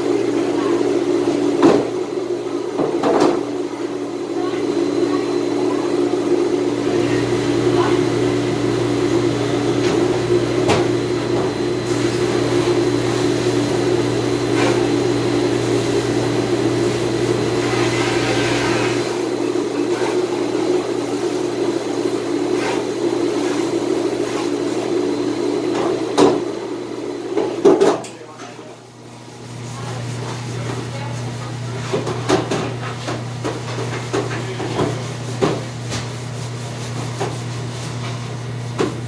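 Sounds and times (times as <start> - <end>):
dishwasher humming: 0.0 - 39.0.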